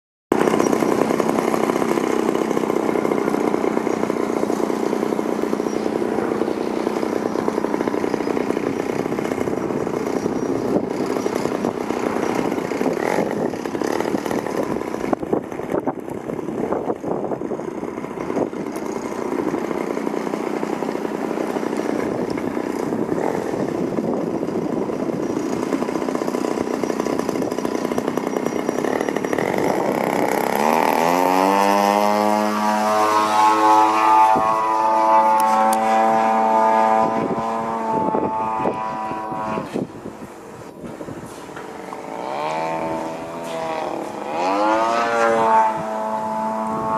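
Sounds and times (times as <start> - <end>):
model plane engine and propeller: 0.3 - 46.9.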